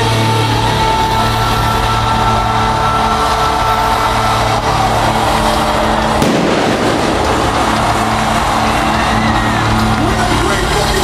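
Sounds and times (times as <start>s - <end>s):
loud rush of noise: 0.0s - 11.0s.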